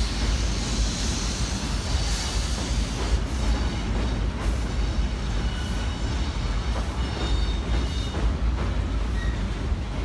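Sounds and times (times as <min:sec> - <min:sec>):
train wheels rumbling on bridge: 0:00.0 - 0:10.0.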